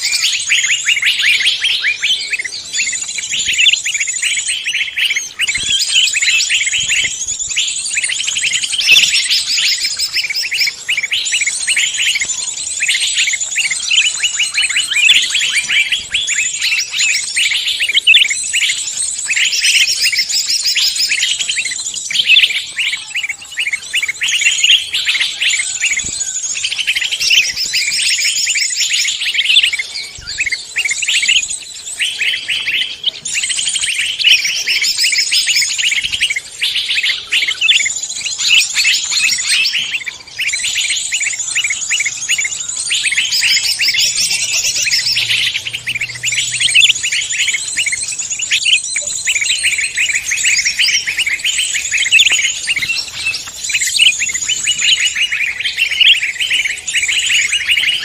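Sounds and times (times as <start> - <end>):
songbirds chattering and chirping: 0.0 - 58.0.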